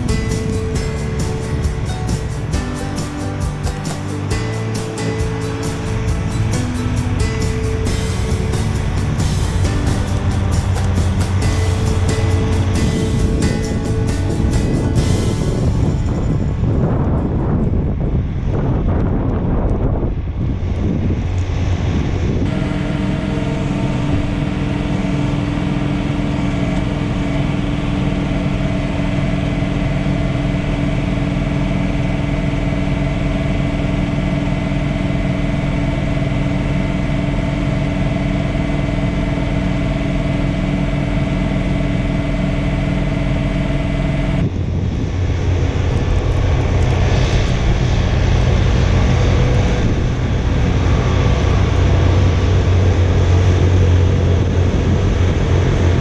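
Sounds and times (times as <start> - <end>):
tractor engine and snowblower: 0.0 - 56.0.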